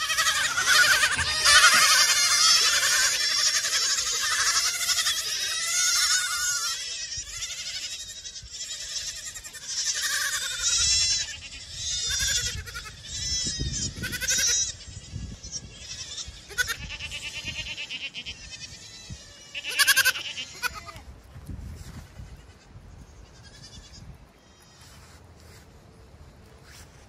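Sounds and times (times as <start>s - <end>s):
goat kids bleating: 0.0s - 21.1s, 22.1s - 25.2s.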